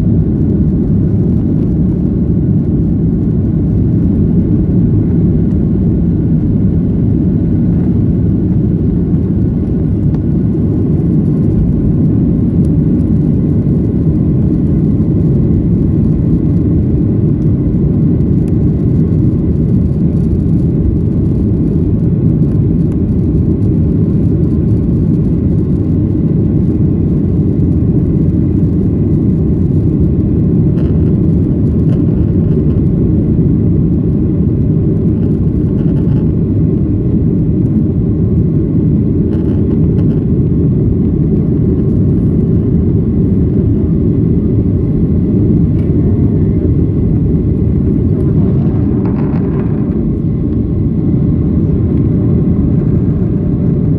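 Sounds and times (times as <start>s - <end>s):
airflow noise: 0.0s - 53.9s
jet engine rumble: 0.0s - 53.9s.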